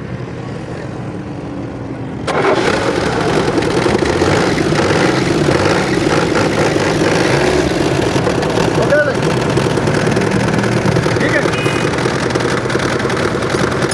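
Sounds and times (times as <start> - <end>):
heavy diesel engine running: 2.2 - 13.9.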